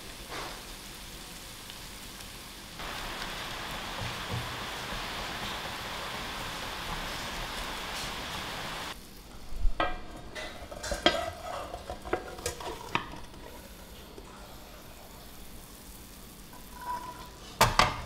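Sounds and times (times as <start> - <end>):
potatoes sizzling in frying pan: 0.0 - 18.0.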